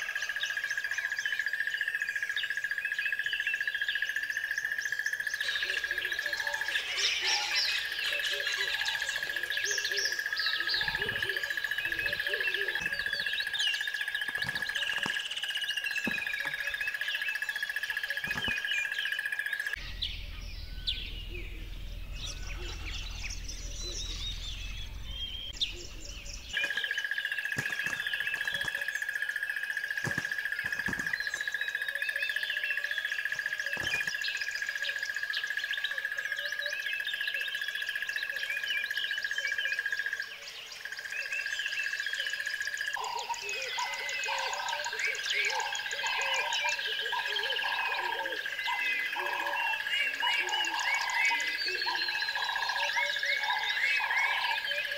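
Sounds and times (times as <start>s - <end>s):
birds chirping: 0.0s - 54.9s
frogs croaking: 0.0s - 54.9s.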